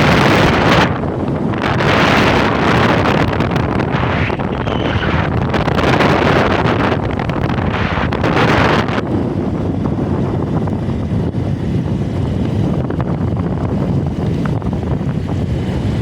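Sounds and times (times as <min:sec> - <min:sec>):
steady low rumble: 0:00.0 - 0:16.0
wind buffeting microphone: 0:00.0 - 0:16.0.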